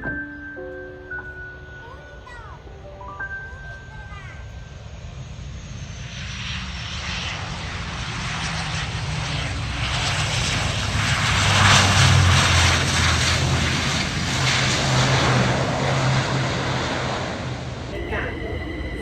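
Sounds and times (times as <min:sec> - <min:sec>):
airliner flying overhead: 0:00.0 - 0:19.0.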